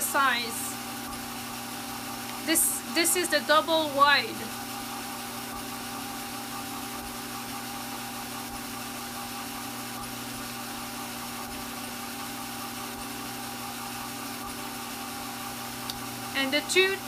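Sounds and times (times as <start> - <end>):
electric drum carder motor hum: 0.0 - 17.0.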